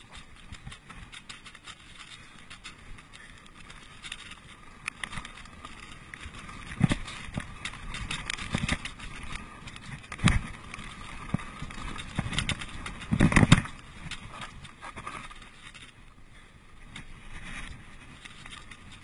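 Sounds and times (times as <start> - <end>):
bike rattling over bumps: 0.0 - 19.0
bike tyres on dirt: 0.0 - 19.0.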